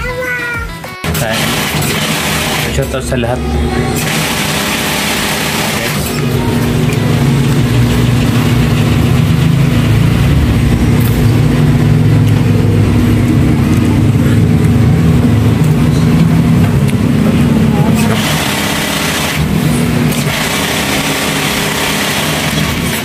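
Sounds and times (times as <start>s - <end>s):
motor humming: 1.0s - 23.0s.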